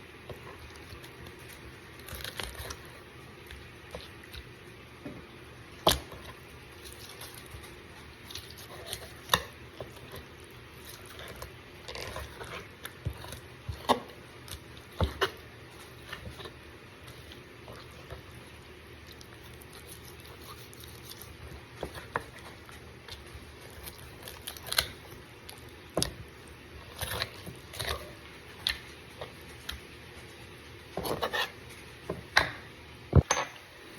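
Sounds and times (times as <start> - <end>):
low background hum: 0.0 - 33.9.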